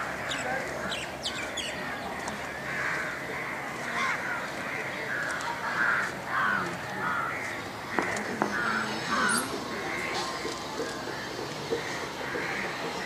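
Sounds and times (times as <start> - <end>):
birds calling harshly: 0.0 - 13.0.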